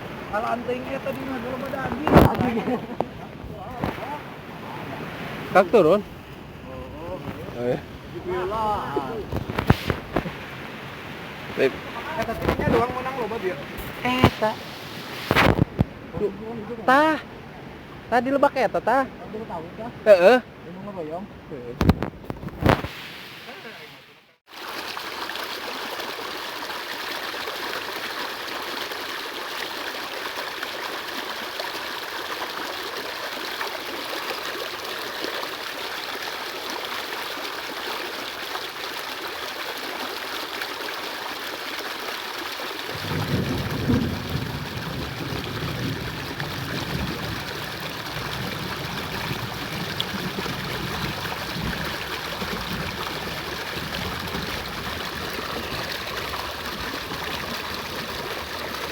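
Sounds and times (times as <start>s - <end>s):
flowing water rushing: 0.0s - 58.9s.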